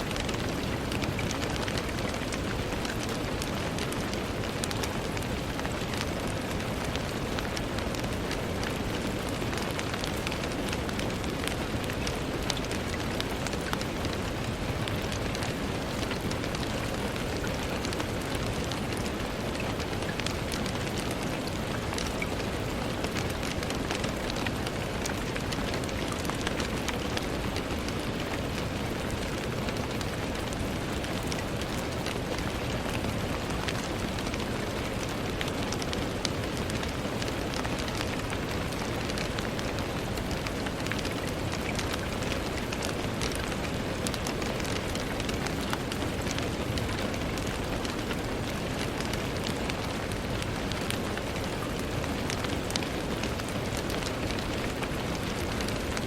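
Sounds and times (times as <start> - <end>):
rain against window: 0.0 - 56.0.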